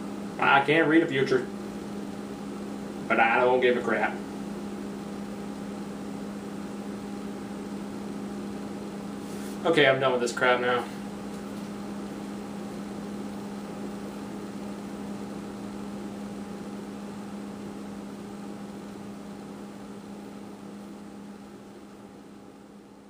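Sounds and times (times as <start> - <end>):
low electrical hum with hiss: 0.0 - 23.0.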